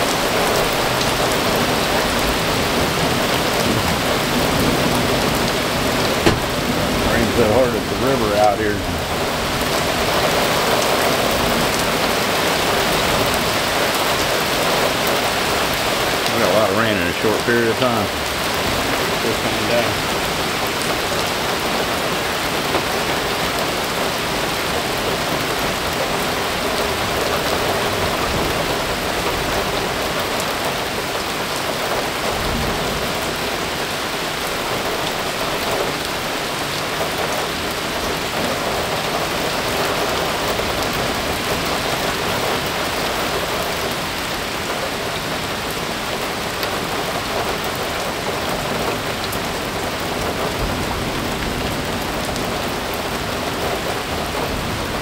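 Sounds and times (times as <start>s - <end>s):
heavy rain on puddles: 0.0s - 55.0s.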